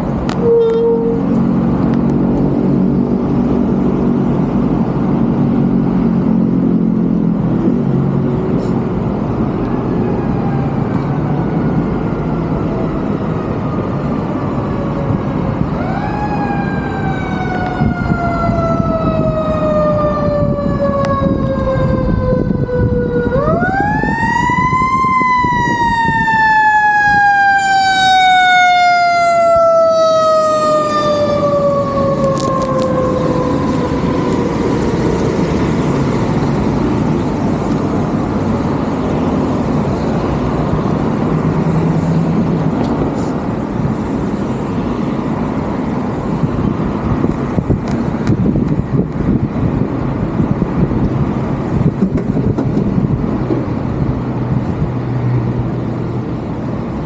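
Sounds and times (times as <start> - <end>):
fire engine siren wailing: 0.0 - 54.9
street traffic: 0.0 - 57.0.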